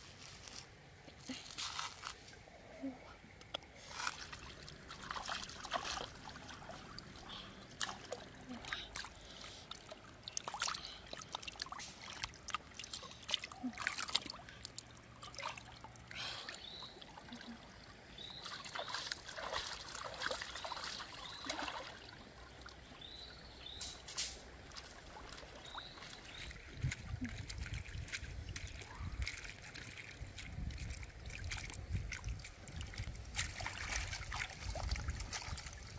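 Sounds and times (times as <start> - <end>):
water splashing and trickling: 0.0 - 2.9, 3.7 - 35.9.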